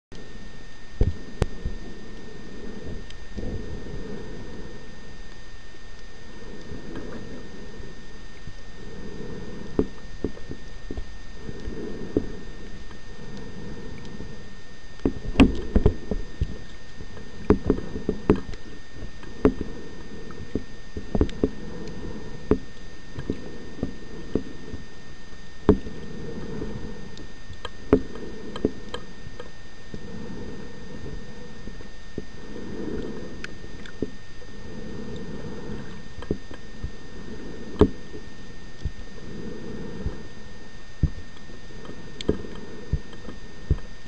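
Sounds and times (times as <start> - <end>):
low underwater rumble: 0.1 - 44.0.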